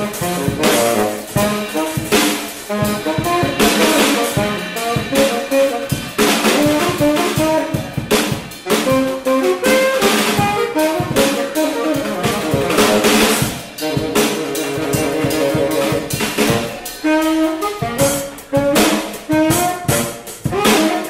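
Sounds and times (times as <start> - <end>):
drum kit snare and bass drum: 0.0 - 21.0
saxophone melody: 0.0 - 21.0.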